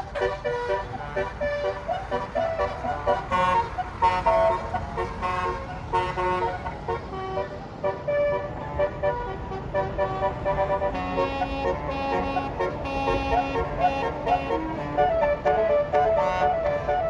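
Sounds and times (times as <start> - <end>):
air horn playing a tune: 0.0 - 17.0.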